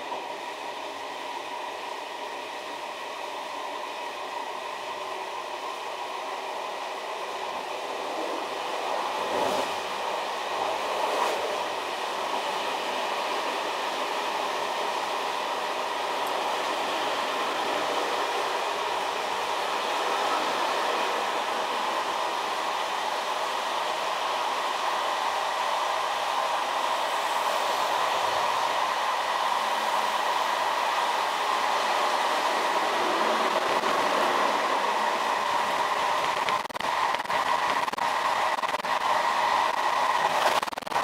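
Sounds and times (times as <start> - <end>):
electric train running: 0.0 - 41.0.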